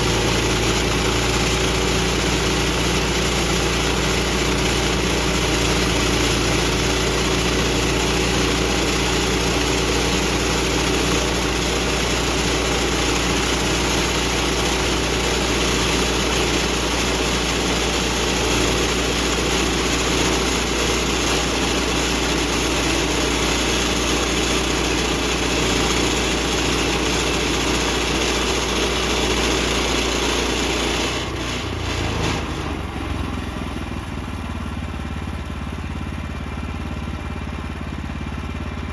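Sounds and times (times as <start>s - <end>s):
bandsaw sawmill running: 0.0s - 38.9s.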